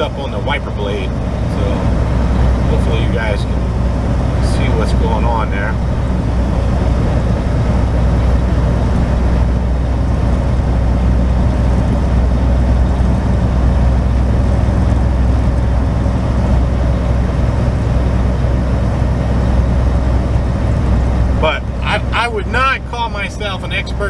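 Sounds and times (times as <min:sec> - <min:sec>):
road and tyre noise: 0:00.0 - 0:24.0
truck engine drone: 0:00.0 - 0:24.0.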